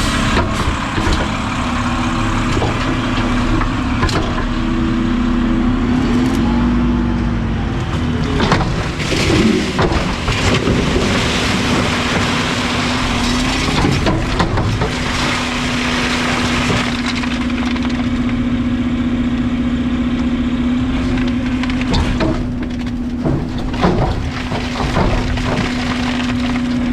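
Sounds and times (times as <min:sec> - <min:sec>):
garbage truck engine droning: 0:00.0 - 0:26.9
trash crunching as compacted: 0:00.0 - 0:26.9.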